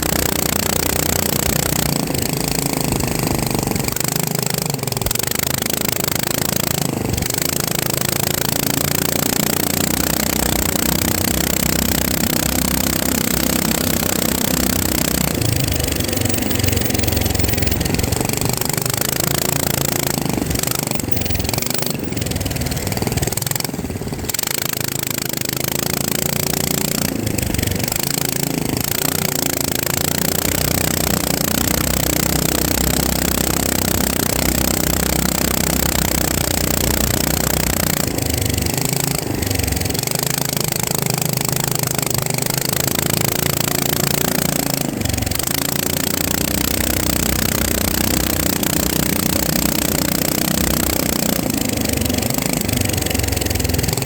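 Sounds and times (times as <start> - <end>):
quadcopter motors buzzing: 0.0 - 54.0.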